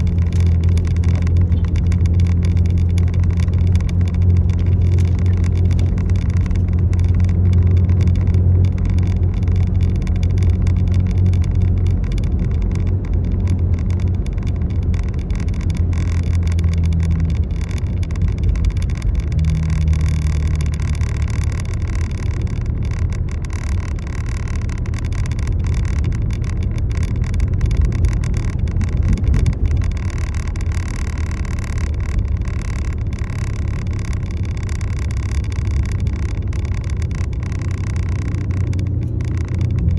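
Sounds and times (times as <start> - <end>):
motor vehicle engine and road drone: 0.0 - 39.9.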